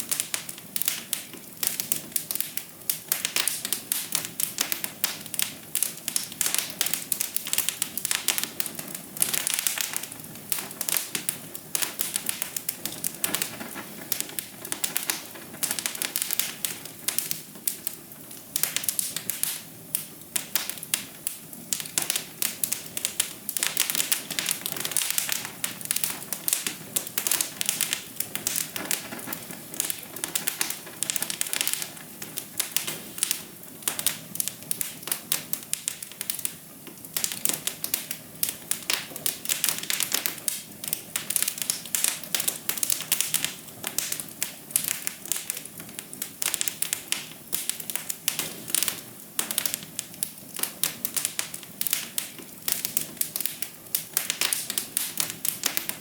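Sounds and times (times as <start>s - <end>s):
soft steady hiss: 0.0s - 56.0s
wood fire crackling: 0.0s - 56.0s.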